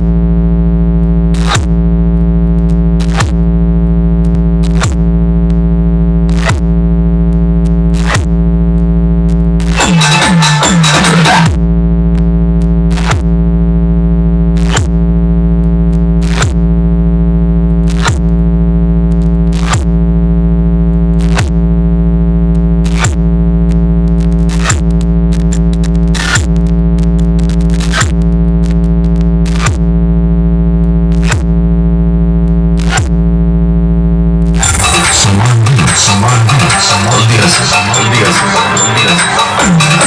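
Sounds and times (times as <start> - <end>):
electronic bass drone: 0.0 - 40.0.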